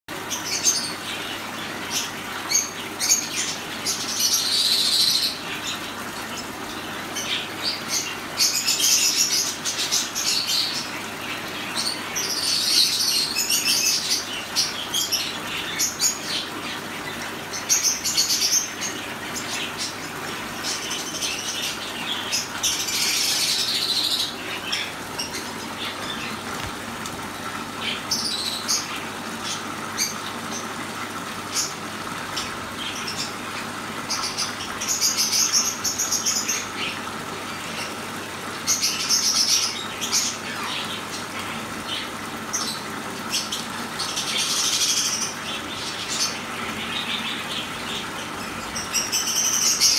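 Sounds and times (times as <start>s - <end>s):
fountain water trickling: 0.1s - 49.9s
high-pitched bird calls: 0.2s - 30.8s, 31.4s - 49.9s.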